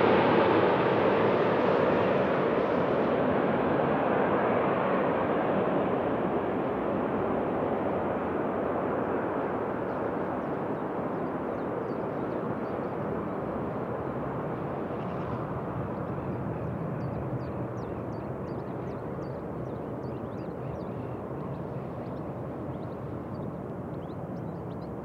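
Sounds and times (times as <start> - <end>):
jet engines rushing: 0.0 - 24.7.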